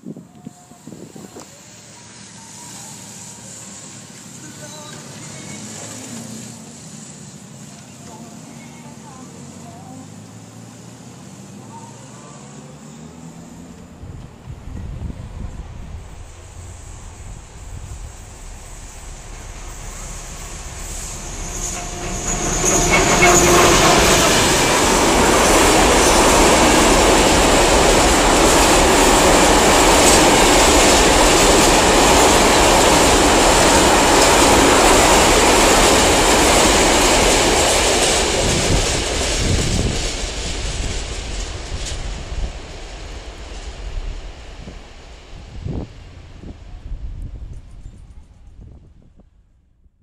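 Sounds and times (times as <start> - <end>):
electric locomotive whine: 0.0 - 49.7.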